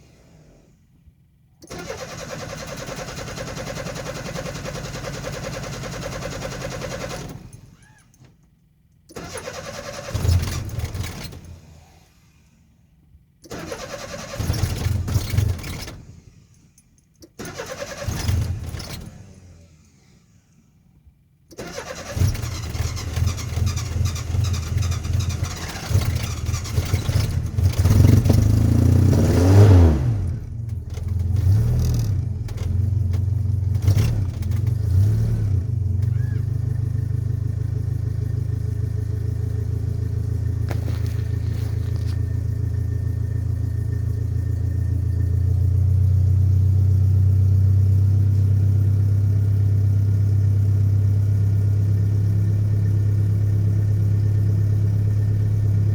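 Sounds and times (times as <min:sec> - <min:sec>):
pickup engine starting and revving: 0:00.0 - 0:08.3, 0:09.1 - 0:55.9.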